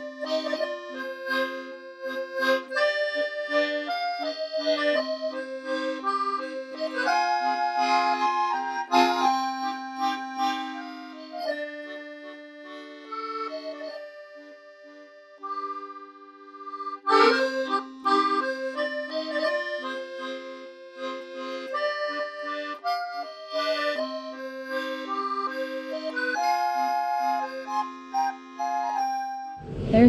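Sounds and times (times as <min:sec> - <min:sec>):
accordion music: 0:00.0 - 0:30.0.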